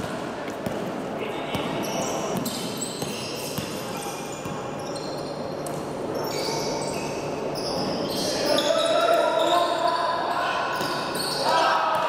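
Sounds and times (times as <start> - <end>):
shoes squeaking on court: 0.6 - 11.5.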